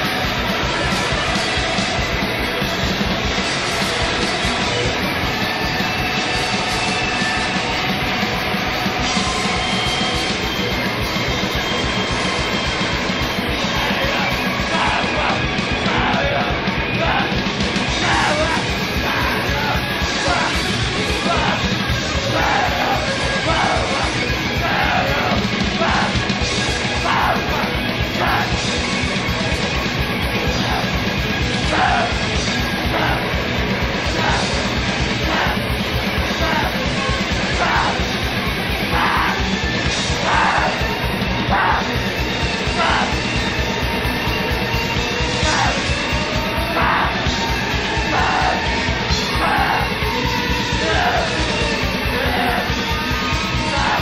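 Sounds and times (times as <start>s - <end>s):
hardcore punk music: 0.0s - 54.0s.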